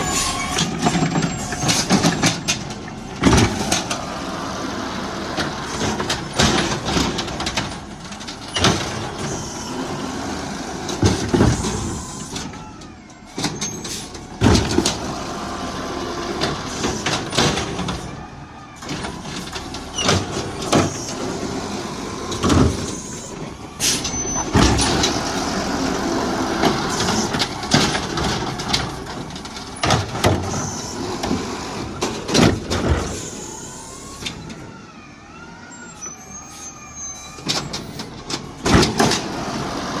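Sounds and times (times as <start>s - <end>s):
garbage truck engine running: 0.0s - 40.0s.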